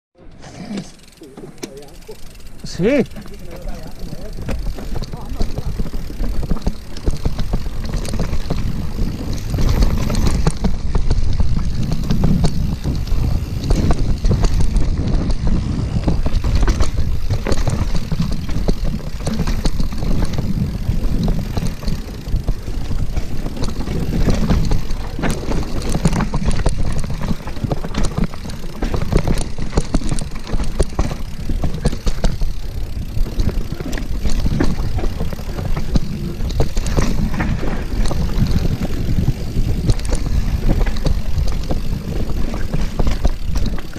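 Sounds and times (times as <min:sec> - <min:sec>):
bike frame rattling: 0:00.2 - 0:43.9
wind and tyres on dirt: 0:00.2 - 0:43.9.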